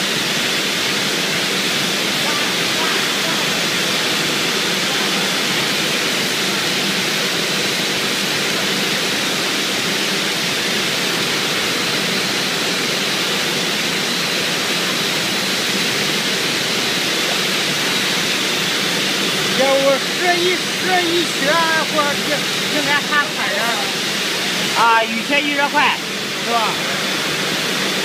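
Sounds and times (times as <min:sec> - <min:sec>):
cutting torches hissing: 0:00.0 - 0:28.0.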